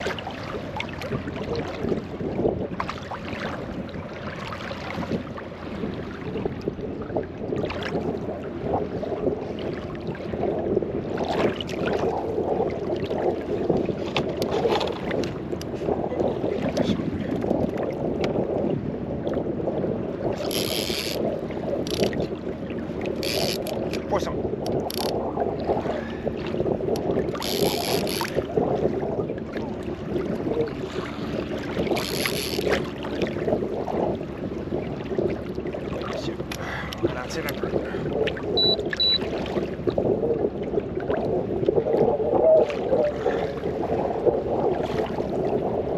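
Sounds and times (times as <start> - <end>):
waves slapping against kayak hull: 0.0 - 45.9
wind buffeting microphone: 0.0 - 45.9.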